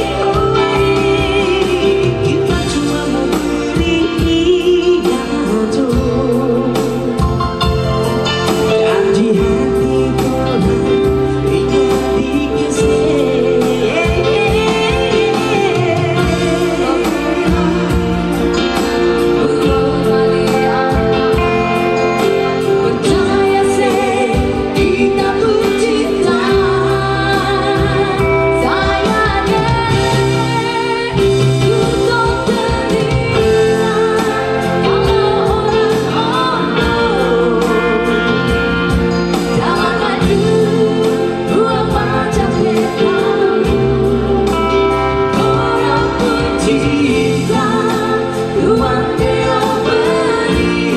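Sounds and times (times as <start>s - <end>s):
man and woman singing duet: 0.0s - 50.9s.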